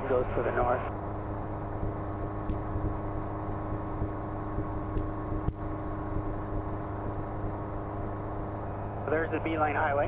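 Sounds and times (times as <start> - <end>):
helicopter engine and rotors droning: 0.0 - 10.0.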